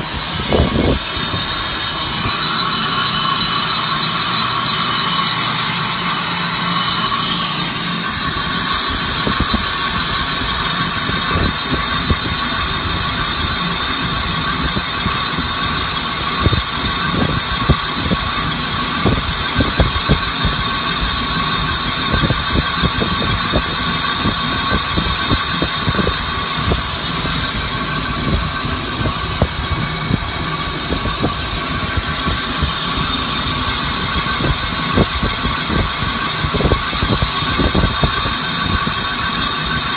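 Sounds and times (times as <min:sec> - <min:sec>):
machine tool squealing cutting iron: 0:00.0 - 0:39.9.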